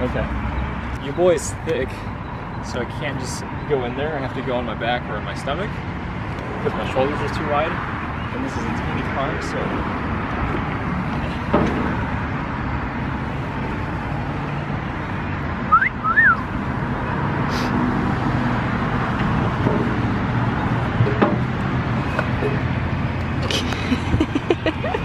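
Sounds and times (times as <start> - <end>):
traffic noise with engine hum: 0.0 - 25.0.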